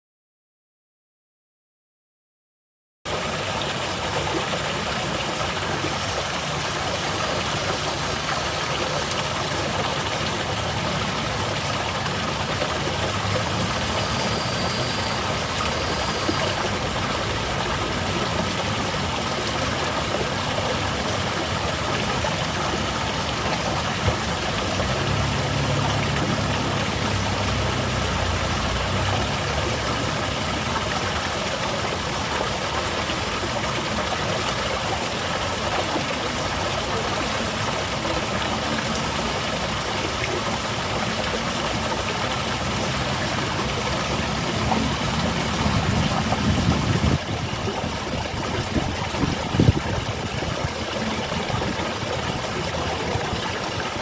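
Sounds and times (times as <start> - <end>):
waterfall pouring: 3.1 - 54.0.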